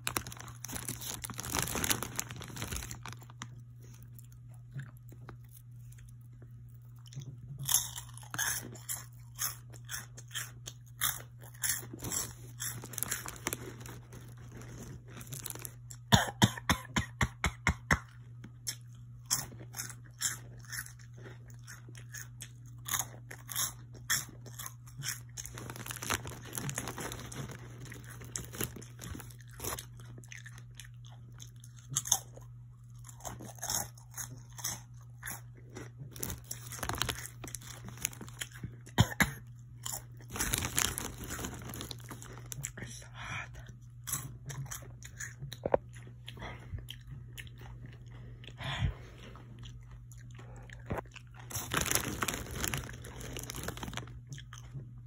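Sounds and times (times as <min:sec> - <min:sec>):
person chewing crunchy snack: 0:00.0 - 0:17.2, 0:18.0 - 0:55.0
steady low hum: 0:00.0 - 0:55.0.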